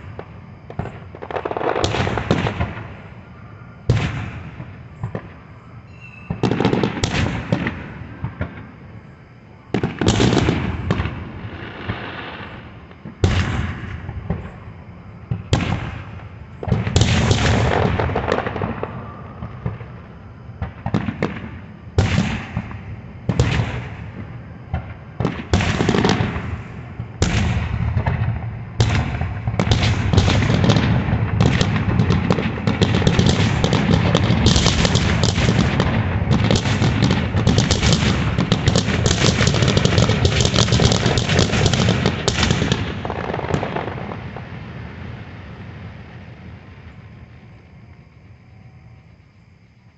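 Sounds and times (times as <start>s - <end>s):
fireworks bursting with loud bangs: 0.0s - 9.0s, 9.6s - 47.4s.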